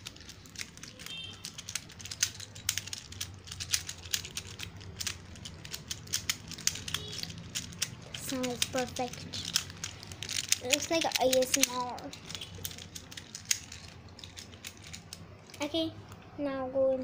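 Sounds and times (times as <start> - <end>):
plastic fidget toy clicking: 0.0 - 15.3.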